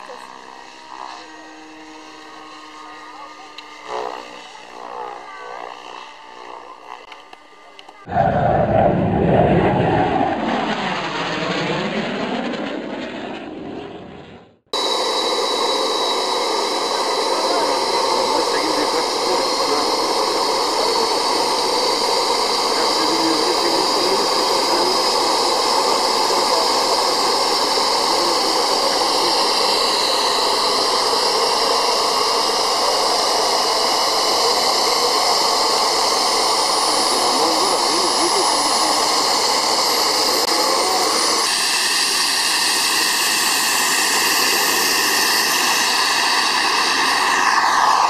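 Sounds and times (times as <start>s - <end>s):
jet turbine engine whining: 0.0s - 48.0s.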